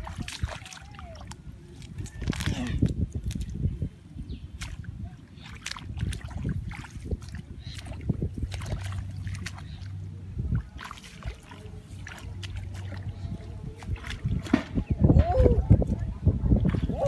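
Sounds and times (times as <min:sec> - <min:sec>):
splashing in muddy water: 0:00.0 - 0:17.0
steady low rumble: 0:01.0 - 0:17.0.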